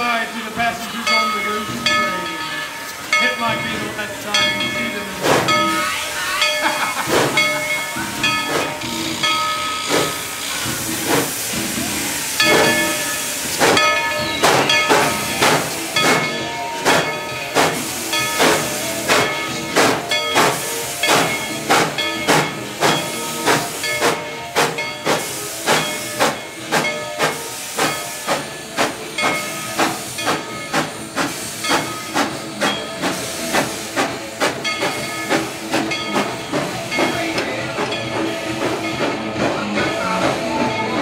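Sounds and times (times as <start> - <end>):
steam locomotive chuffing: 0.0 - 41.0.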